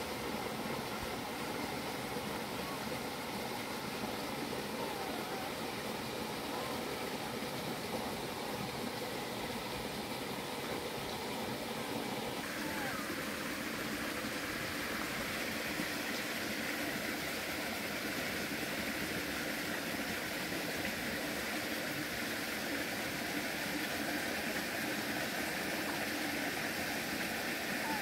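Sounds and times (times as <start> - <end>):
stream flowing over rock: 0.0 - 28.0.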